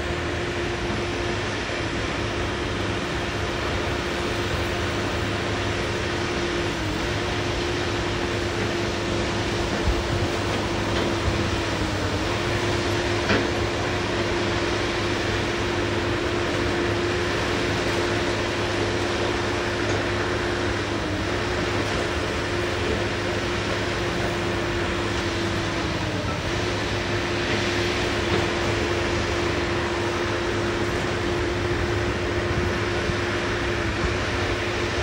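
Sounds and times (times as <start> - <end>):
diesel engine droning: 0.0 - 35.0
radiator cooling fan hum: 0.0 - 35.0.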